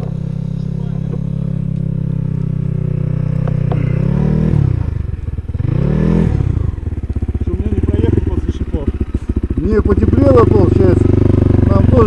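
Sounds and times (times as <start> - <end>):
small engine idling and revving: 0.0 - 12.0.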